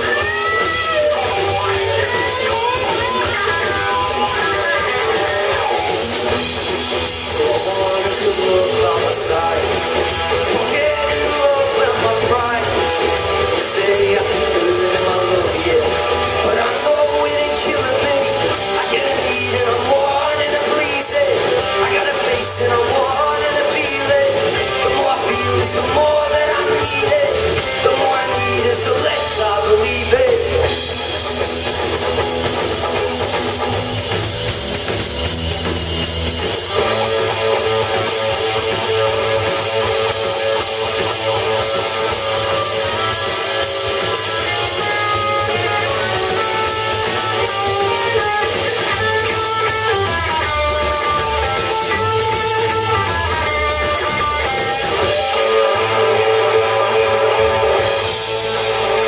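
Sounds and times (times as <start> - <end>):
electric guitars: 0.0 - 59.0
live rock band playing: 0.0 - 59.0.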